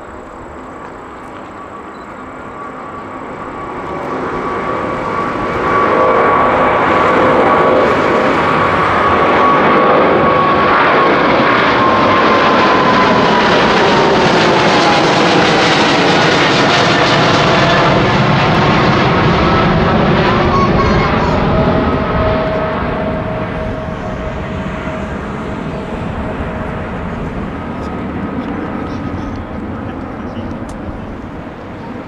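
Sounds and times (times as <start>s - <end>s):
jet engine roar: 0.0s - 32.0s
jet engine whine: 0.0s - 32.0s.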